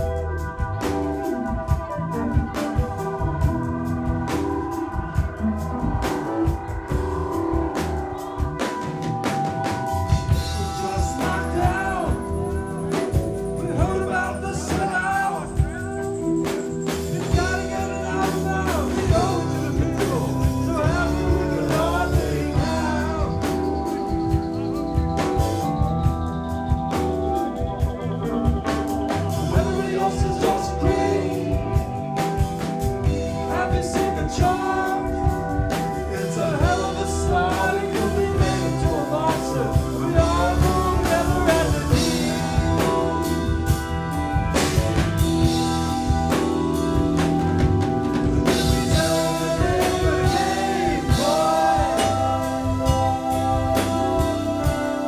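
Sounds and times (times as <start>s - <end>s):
high tone sliding downward: 0.0s - 55.0s
keyboard chords: 0.0s - 55.0s
live rock band jamming: 0.0s - 55.0s.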